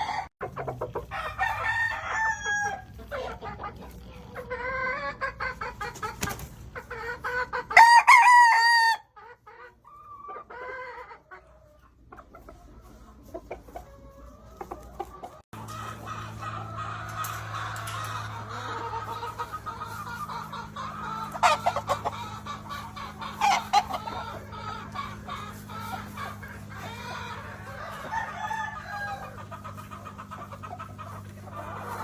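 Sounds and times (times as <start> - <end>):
roosters crowing and clucking: 0.0 - 32.0.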